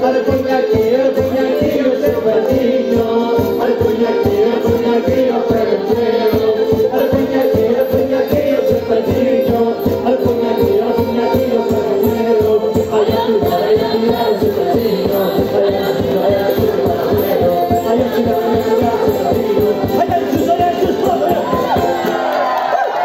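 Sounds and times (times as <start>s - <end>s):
percussion quick beat: 0.0s - 22.7s
folk dance music: 0.0s - 23.0s
person singing: 0.0s - 23.0s.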